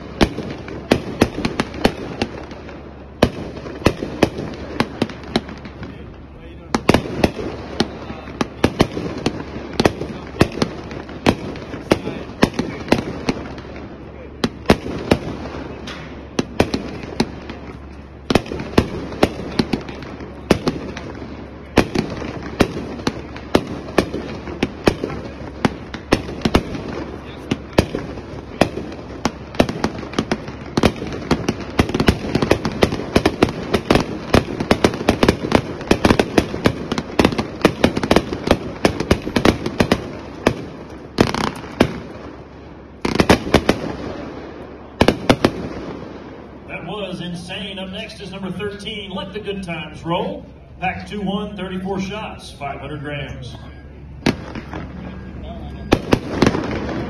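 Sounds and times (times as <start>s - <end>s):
fireworks crackle: 0.0s - 51.2s, 54.2s - 57.0s
fireworks bangs: 0.0s - 57.0s.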